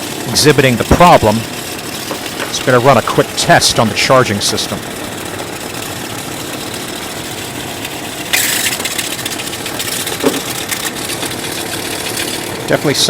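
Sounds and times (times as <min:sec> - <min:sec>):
alternator noise: 0:00.0 - 0:13.0
truck engine idling: 0:00.0 - 0:13.0.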